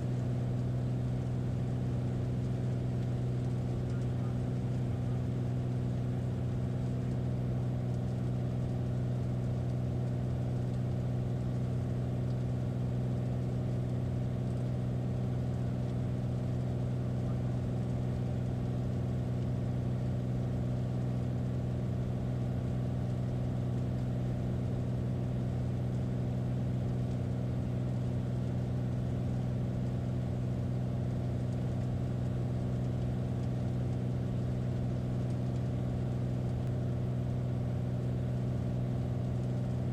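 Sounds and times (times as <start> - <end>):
light airplane engine droning: 0.0 - 39.9.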